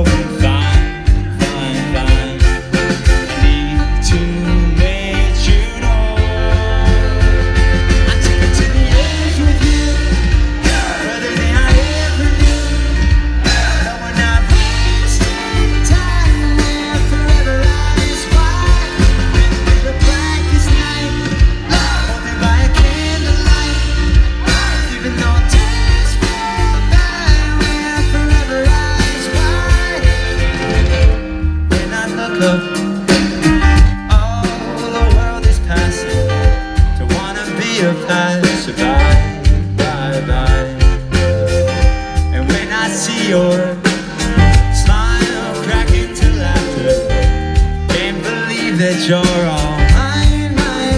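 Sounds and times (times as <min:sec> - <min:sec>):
man singing: 0:00.0 - 0:30.8, 0:31.7 - 0:50.9
live rock band playing: 0:00.0 - 0:50.9.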